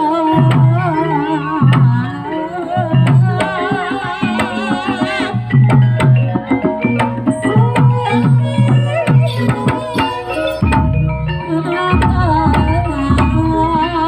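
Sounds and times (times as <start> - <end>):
gamelan percussion: 0.0 - 14.0
hand drum beating: 0.0 - 14.0
wavering vibrato melody: 0.0 - 14.0.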